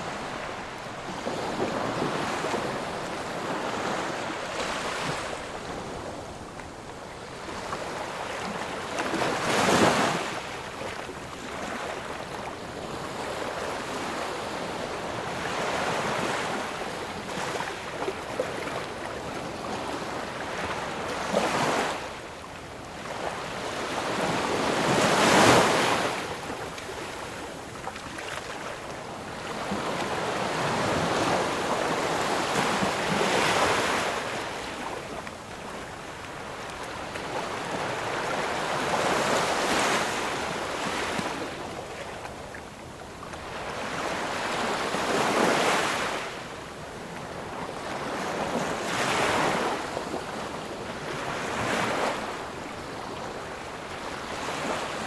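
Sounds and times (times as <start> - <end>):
waves crashing on shore: 0.0 - 22.3, 23.0 - 55.0.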